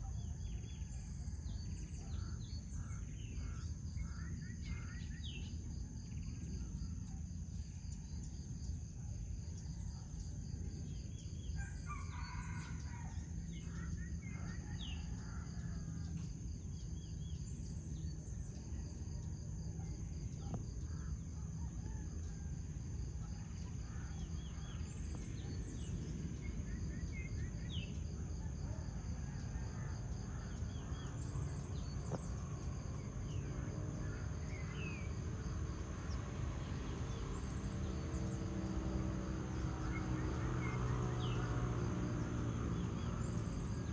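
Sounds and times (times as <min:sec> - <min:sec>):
insects trilling: 0:00.0 - 0:43.9
low steady rumble: 0:00.0 - 0:43.9.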